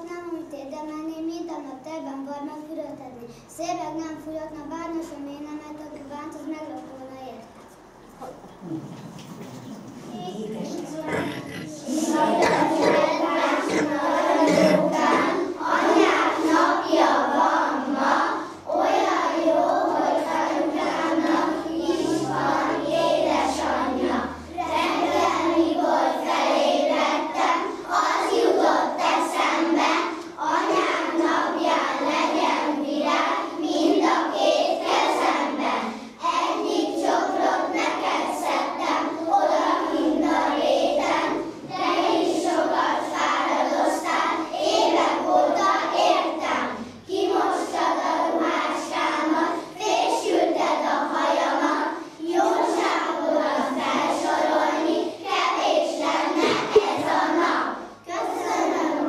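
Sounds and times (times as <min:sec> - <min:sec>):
children singing in unison: 0:10.3 - 0:59.0.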